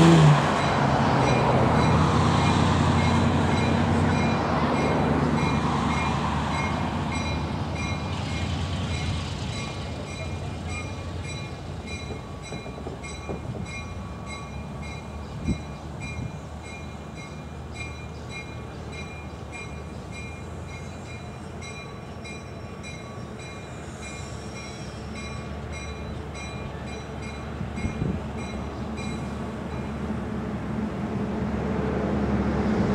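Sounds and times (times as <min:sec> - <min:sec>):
diesel locomotive rumbling: 0:00.0 - 0:32.9.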